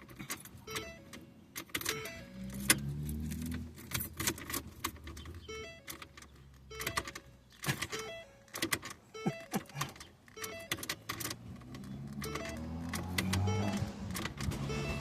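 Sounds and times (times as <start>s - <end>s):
car key jangling in ignition: 0.0s - 14.6s.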